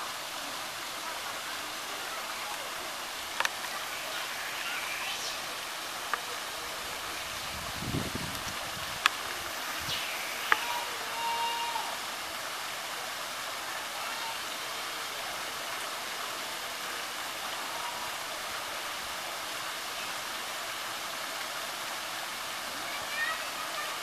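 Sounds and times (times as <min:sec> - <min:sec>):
water pouring into a pool: 0:00.0 - 0:24.0.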